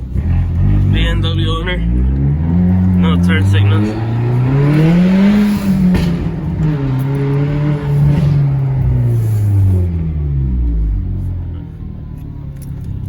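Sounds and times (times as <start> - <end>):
turbocharged car engine revving: 0.0 - 13.0.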